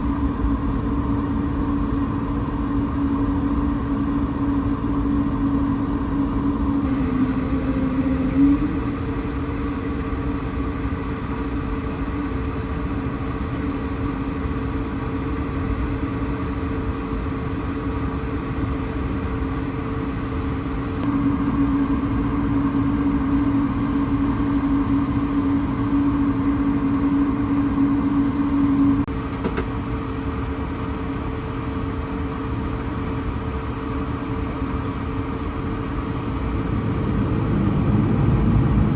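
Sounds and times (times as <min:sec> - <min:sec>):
airplane cabin engine hum: 0:00.0 - 0:38.9.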